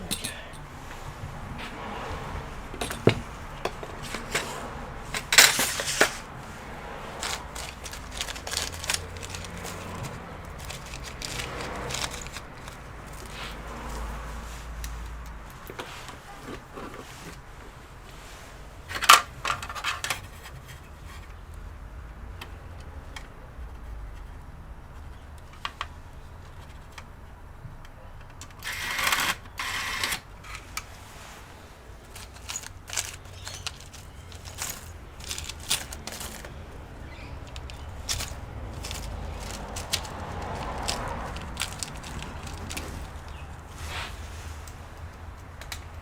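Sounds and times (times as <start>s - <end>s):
scraping and rustling: 0.6s - 21.5s, 28.7s - 46.0s.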